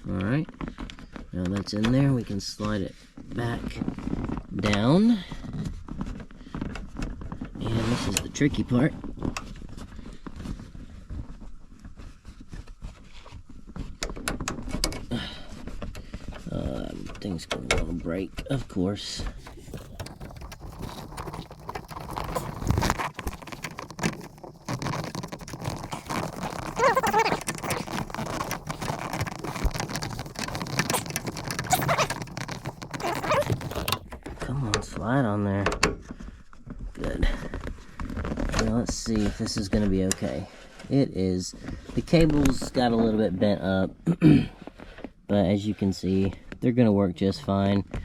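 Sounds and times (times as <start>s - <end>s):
small clicks and scrapes: 0.0s - 41.0s.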